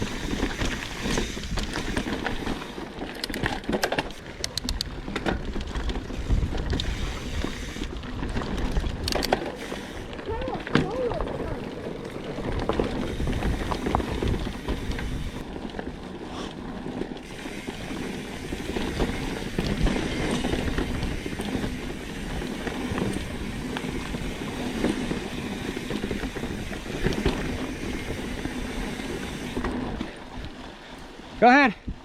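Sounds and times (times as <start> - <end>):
bike rattling and clicking: 0.0 - 32.0
bike tyre rumble on dirt: 0.0 - 32.0.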